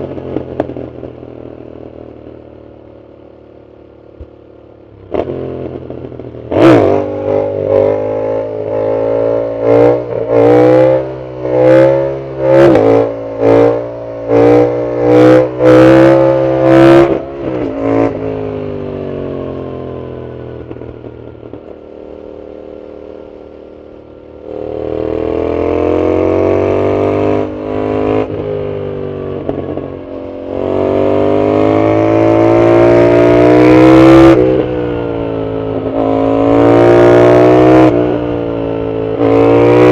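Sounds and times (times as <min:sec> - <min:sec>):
motorcycle engine revving: 0:04.2 - 0:39.9.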